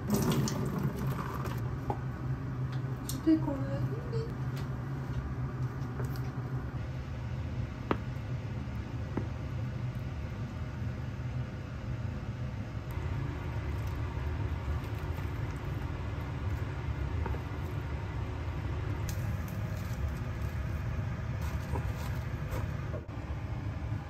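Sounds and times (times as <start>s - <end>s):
steady low rumble: 1.6s - 24.0s.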